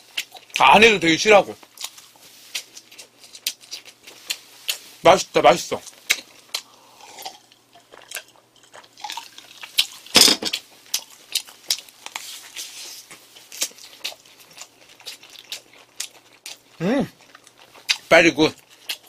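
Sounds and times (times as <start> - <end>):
person chewing food: 0.0 - 0.6, 1.6 - 5.0, 5.8 - 19.0.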